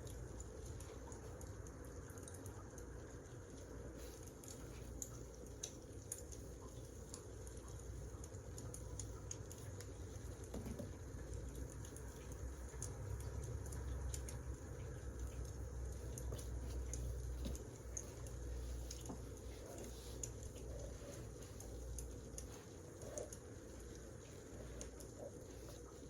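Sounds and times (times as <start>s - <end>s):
rumble of burning logs: 0.0s - 26.0s
wood fire crackling: 0.0s - 26.0s.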